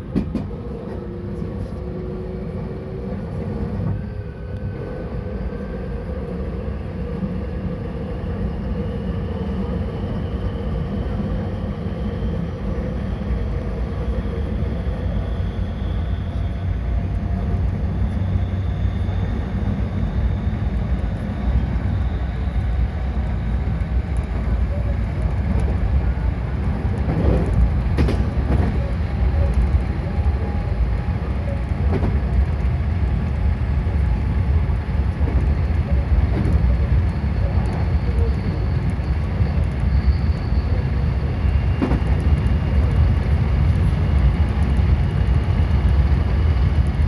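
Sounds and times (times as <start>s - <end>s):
wheels rumbling on track: 0.0s - 47.0s.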